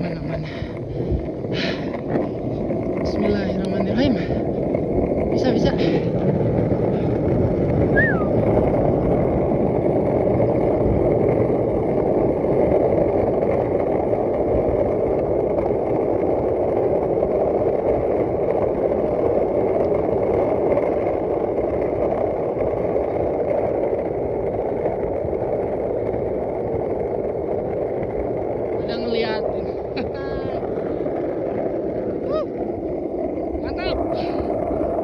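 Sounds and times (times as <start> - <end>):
skateboard wheels rolling on asphalt: 0.0 - 35.0.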